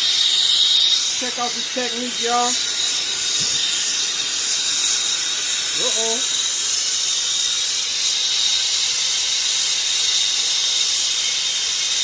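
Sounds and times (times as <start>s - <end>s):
torch flame hissing: 0.0s - 12.0s.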